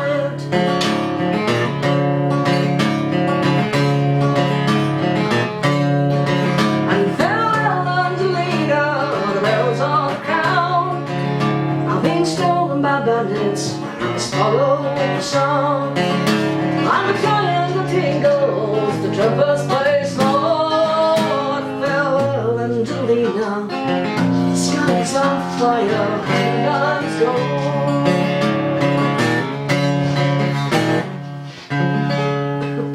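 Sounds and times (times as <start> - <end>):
acoustic guitar plucked and strummed: 0.0 - 32.9.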